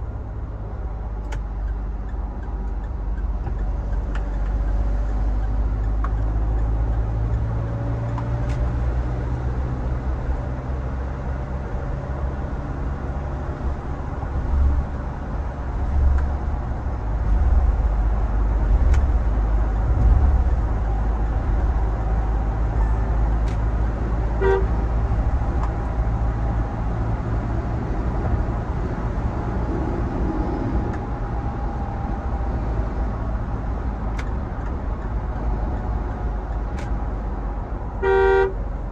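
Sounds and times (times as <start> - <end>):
engine and road rumble: 0.0 - 38.9.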